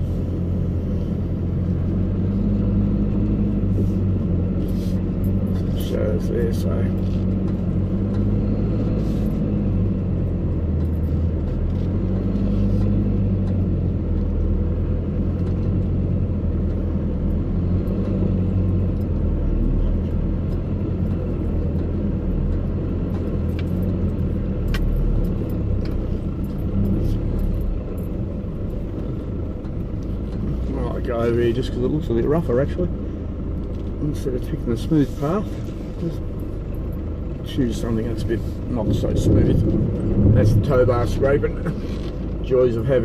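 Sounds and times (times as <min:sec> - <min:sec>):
vehicle engine under load: 0:00.0 - 0:43.0.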